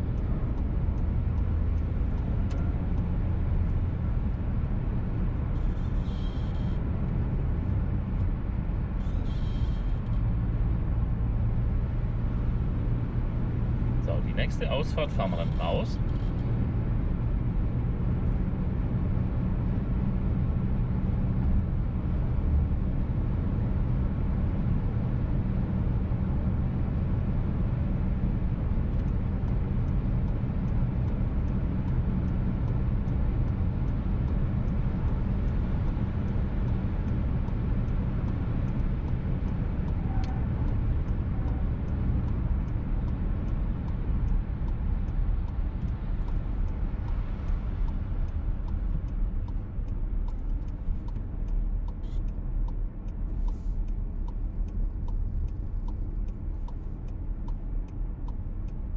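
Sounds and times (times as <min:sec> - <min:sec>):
car cabin drone at speed: 0:00.0 - 0:58.9.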